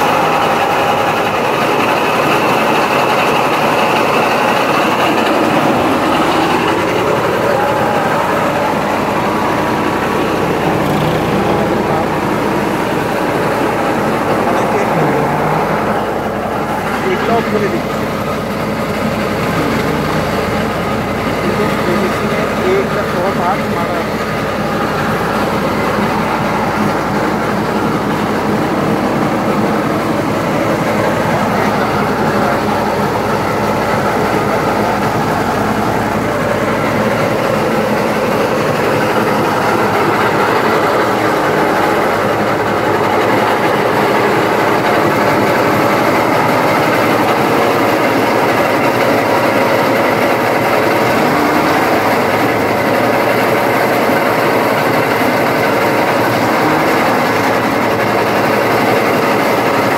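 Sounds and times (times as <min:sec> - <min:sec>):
crop thresher rattling: 0:00.0 - 0:59.9.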